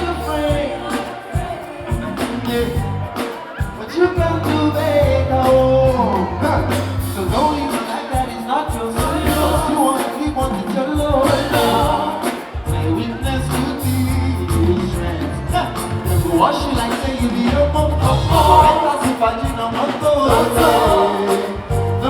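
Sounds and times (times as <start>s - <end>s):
party music with heavy bass: 0.0s - 22.0s
person singing: 0.0s - 22.0s.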